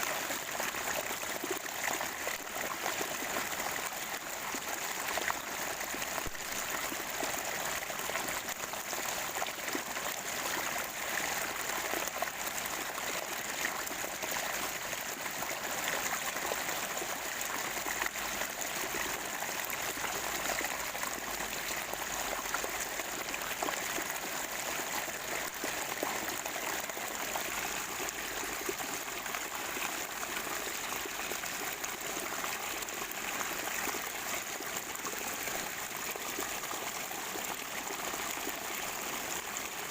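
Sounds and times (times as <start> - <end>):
stream water trickling and gurgling: 0.0 - 39.9.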